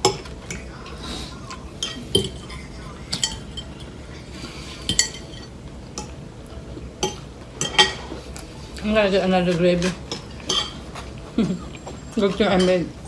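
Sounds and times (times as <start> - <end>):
cutlery clinking against a plate: 0.0 - 4.0, 4.7 - 8.5, 9.5 - 13.0.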